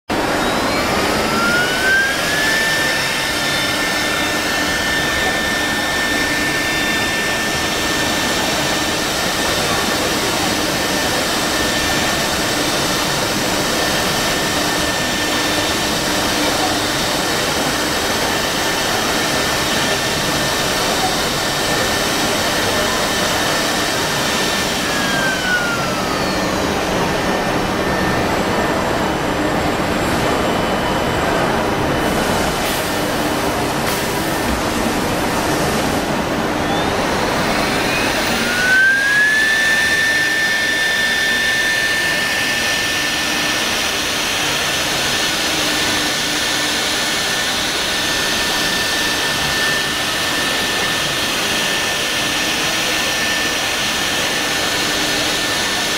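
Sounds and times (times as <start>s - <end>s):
router machine rushing noise: 0.1s - 55.9s
spindle high whine: 0.1s - 55.9s.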